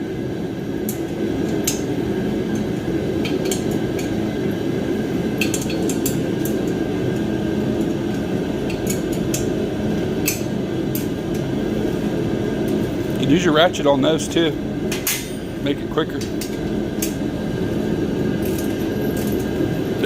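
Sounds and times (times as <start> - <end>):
heater running with low rush: 0.0 - 20.0.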